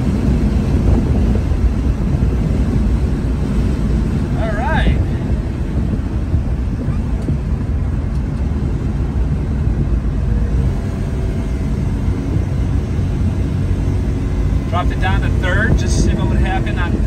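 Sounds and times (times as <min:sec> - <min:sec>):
truck engine rumble: 0:00.0 - 0:17.0
tyre and road noise: 0:00.0 - 0:17.0.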